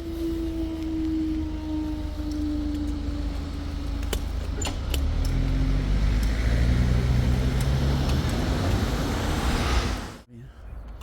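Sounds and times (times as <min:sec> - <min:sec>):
vehicle engine passing: 0:01.1 - 0:10.2.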